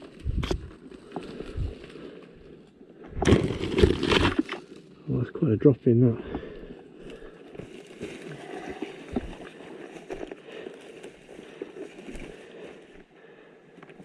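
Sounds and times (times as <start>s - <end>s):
footsteps through undergrowth: 0.0s - 4.9s, 6.3s - 14.0s.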